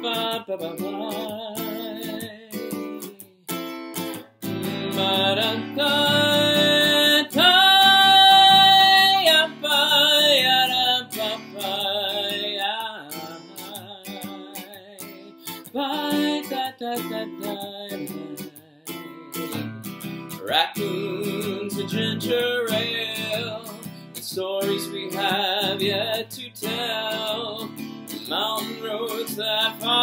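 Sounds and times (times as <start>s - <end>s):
man singing wordless melody: 0.0s - 3.5s, 4.4s - 19.6s, 20.3s - 30.0s
acoustic guitar strumming: 0.0s - 30.0s.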